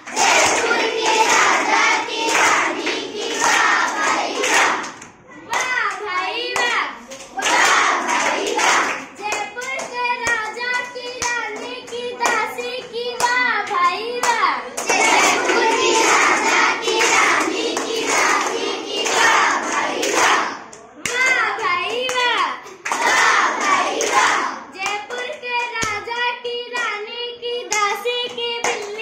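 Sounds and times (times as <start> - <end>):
children singing a chant: 0.0 - 20.6, 22.9 - 29.0
hands clapping in rhythm: 0.0 - 27.0, 27.7 - 29.0.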